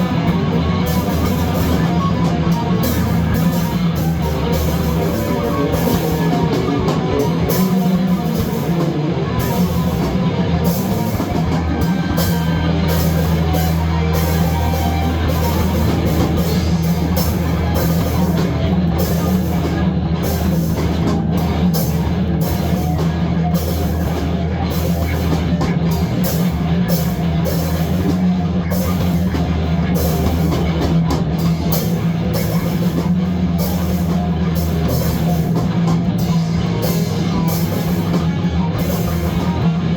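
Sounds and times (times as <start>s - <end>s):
heavy metal music: 0.0s - 39.9s.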